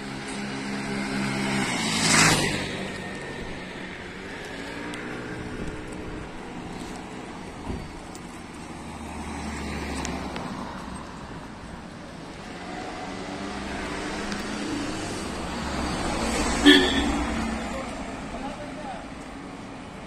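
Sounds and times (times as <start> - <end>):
vehicle engines passing: 0.0 - 20.0.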